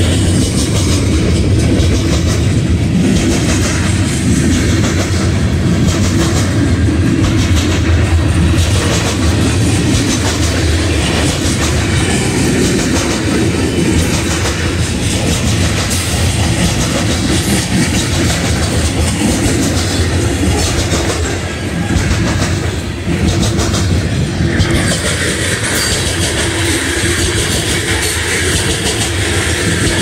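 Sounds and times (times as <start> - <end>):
freight train wheels rumbling: 0.0 - 30.0
wheels clicking over track: 0.0 - 30.0.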